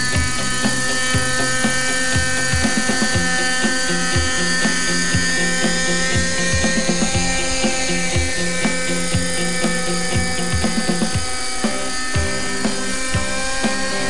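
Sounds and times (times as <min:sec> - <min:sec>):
background music with a beat: 0:00.0 - 0:14.0
model helicopter engine whine: 0:00.0 - 0:14.0.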